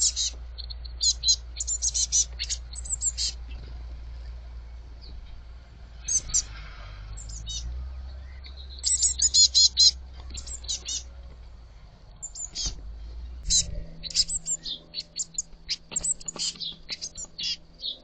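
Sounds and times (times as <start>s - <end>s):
young birds chirping: 0.0s - 11.4s, 12.1s - 18.0s
low steady hum: 0.0s - 18.0s.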